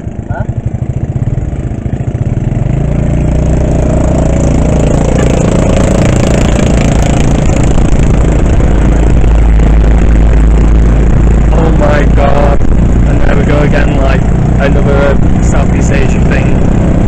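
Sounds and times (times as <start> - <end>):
road and wind noise: 0.0 - 17.0
vehicle engine accelerating: 0.0 - 17.0.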